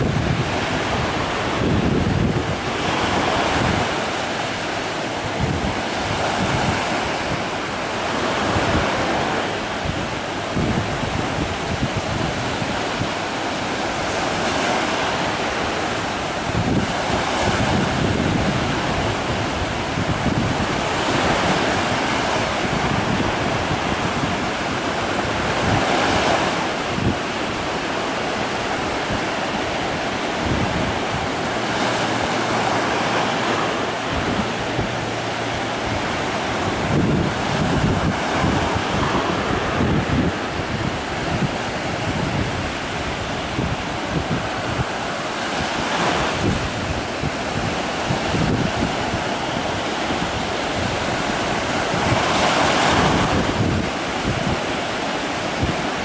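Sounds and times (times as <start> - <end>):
small waves breaking: 0.0 - 56.0
wind buffeting microphone: 0.0 - 56.0.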